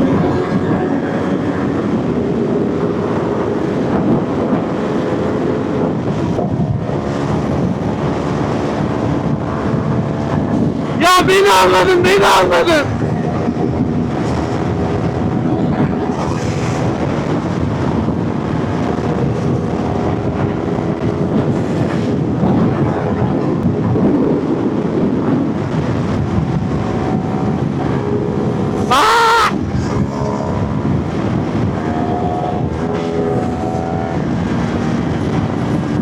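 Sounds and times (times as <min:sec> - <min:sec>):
motorcycle engines running: 0:00.0 - 0:28.9, 0:29.6 - 0:36.0
wind rushing over microphone: 0:00.0 - 0:36.0.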